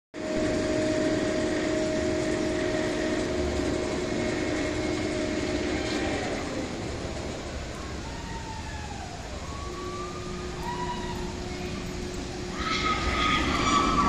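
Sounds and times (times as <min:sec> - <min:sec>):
roller coaster train on track: 0:00.2 - 0:14.0.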